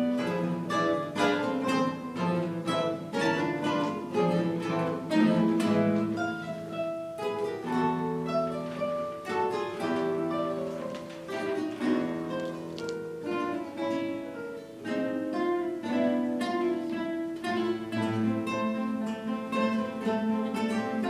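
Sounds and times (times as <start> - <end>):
acoustic guitar ensemble: 0.0 - 21.0.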